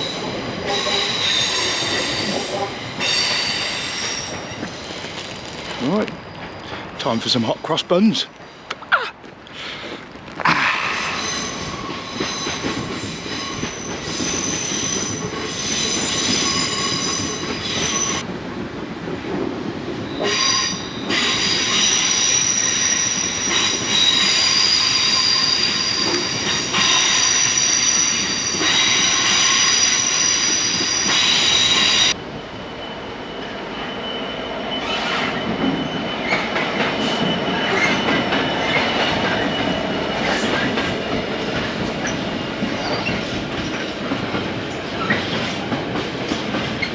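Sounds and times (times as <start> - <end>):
train wheels squealing: 0.0 - 8.6, 10.8 - 18.2, 20.0 - 41.1, 41.9 - 43.9
train wheels rumbling on rails: 0.0 - 46.9.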